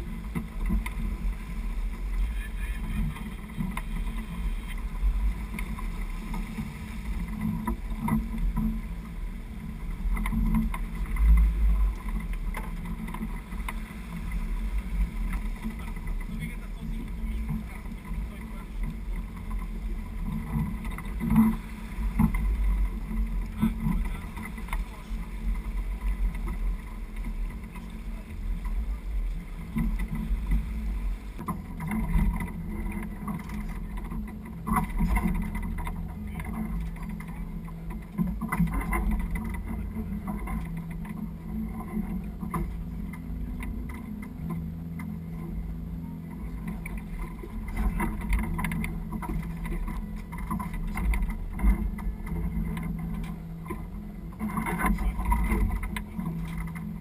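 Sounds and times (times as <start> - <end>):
water rushing along hull: 0.0 - 57.0
wind rumble on microphone: 0.0 - 57.0.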